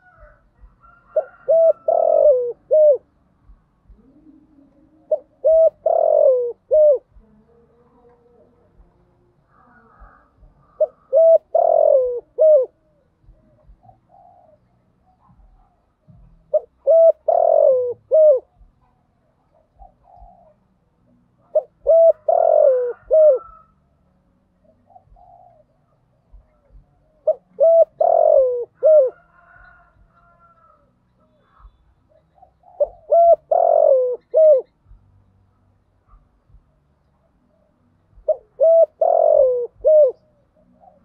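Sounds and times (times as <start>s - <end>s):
dove cooing: 0.0s - 3.2s, 3.8s - 23.8s, 24.5s - 41.0s.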